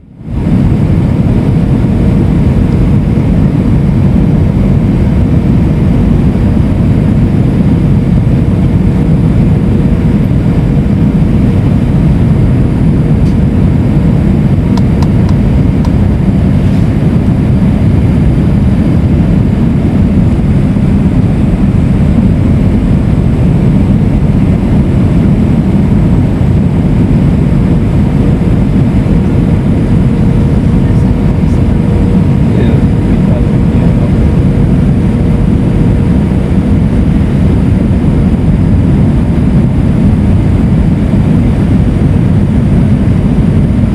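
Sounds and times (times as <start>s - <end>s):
airliner cabin engine rumble: 0.0s - 43.9s
faint steady hum: 0.0s - 43.9s.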